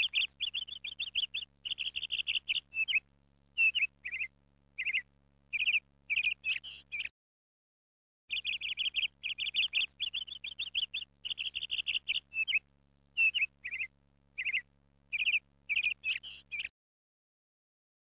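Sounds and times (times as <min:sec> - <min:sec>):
small bird chirping: 0:00.0 - 0:07.1, 0:08.3 - 0:16.7.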